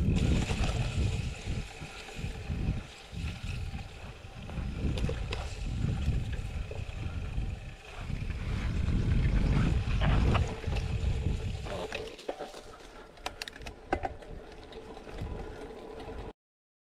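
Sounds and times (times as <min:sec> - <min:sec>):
wind buffeting microphone: 0:00.0 - 0:12.0, 0:14.0 - 0:16.3
bike clicks and rattles: 0:00.0 - 0:16.3
bike tyre noise on dirt: 0:00.0 - 0:16.3.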